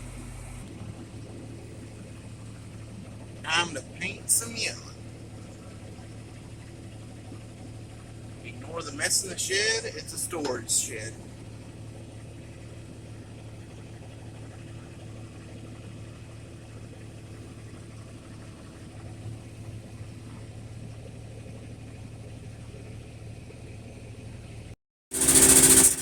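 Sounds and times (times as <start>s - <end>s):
motor humming: 0.0s - 20.6s, 25.1s - 26.0s.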